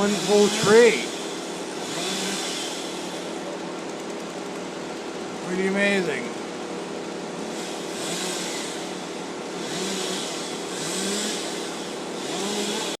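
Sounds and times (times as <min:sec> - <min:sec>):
chainsaw engine revving: 0:00.0 - 0:06.4, 0:07.4 - 0:13.0.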